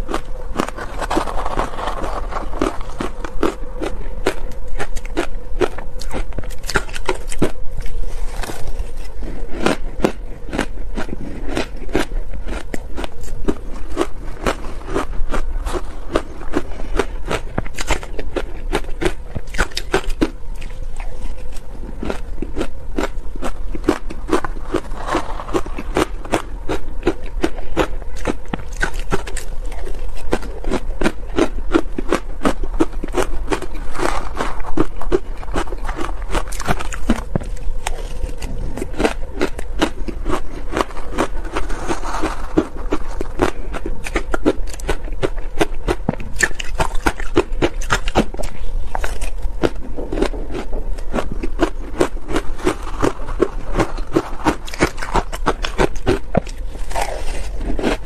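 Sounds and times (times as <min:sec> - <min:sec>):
crunching shaved ice: 0:00.0 - 0:58.0.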